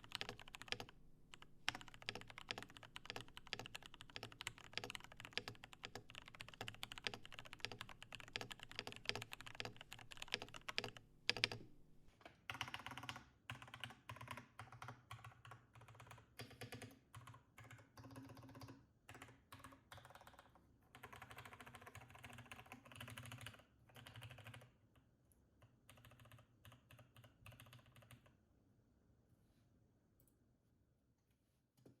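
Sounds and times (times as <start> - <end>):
mechanical keyboard typing: 0.0 - 11.6, 12.5 - 24.7, 25.9 - 28.3.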